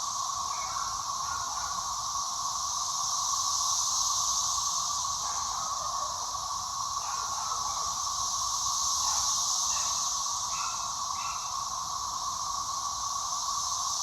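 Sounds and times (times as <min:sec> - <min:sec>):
cicada chirps: 0:00.0 - 0:14.0
cicadas droning: 0:00.0 - 0:14.0
high hiss: 0:00.0 - 0:14.0.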